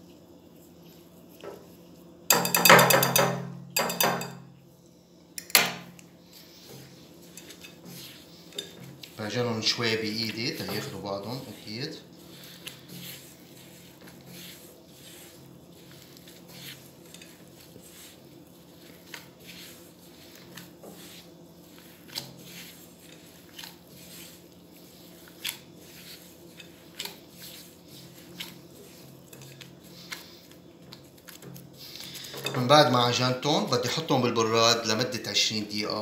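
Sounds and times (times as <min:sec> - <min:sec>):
dough squishing and crumbling: 0:05.5 - 0:36.0.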